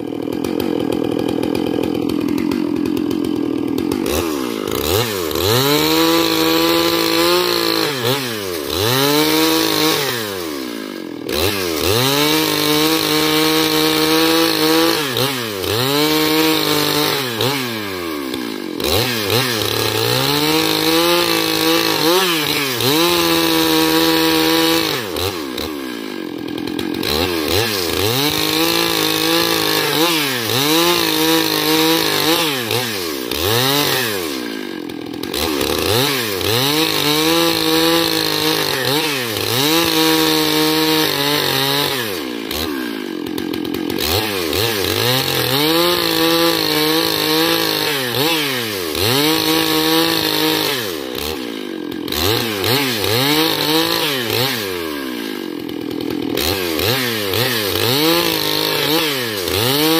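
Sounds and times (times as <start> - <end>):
chainsaw ripping a log: 0.0 - 59.9.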